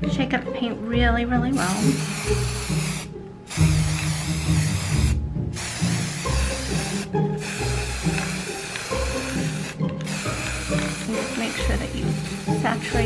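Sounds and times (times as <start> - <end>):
background music: 0.0 - 13.0
spray paint can hissing: 1.6 - 13.0.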